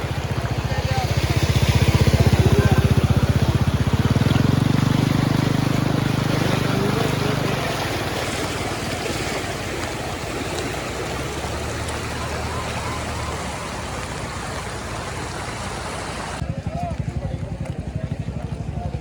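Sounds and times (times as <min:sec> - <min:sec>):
flowing water: 0:00.0 - 0:16.4
vehicle engine pulsing: 0:00.0 - 0:19.0.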